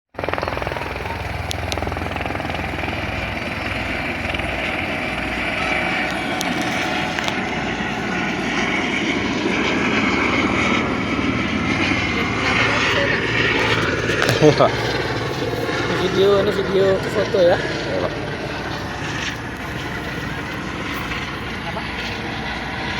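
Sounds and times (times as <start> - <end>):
helicopter rotor chopping: 0.1 - 22.9.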